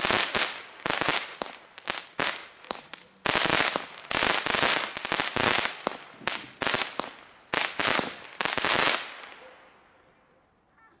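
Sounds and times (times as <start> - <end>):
firework bursts: 0.0 - 9.4.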